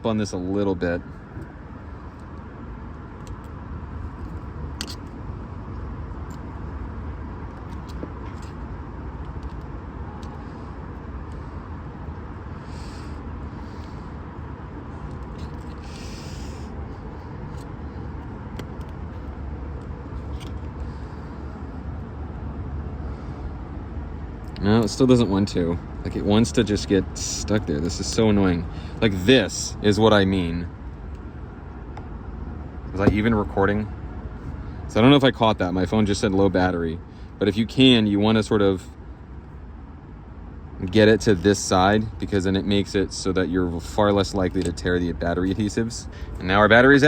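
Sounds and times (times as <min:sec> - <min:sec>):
low background rumble: 0:00.0 - 0:47.0.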